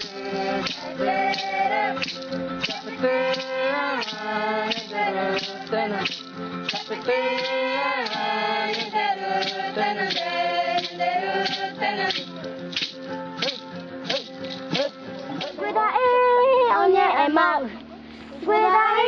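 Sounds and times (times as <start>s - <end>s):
shaken rattle beat: 0.0s - 15.7s
chanted singing: 0.0s - 16.2s.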